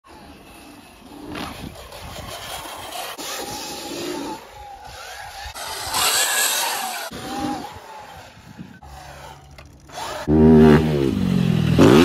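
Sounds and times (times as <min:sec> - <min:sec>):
tyre noise on dirt: 0:00.1 - 0:12.0.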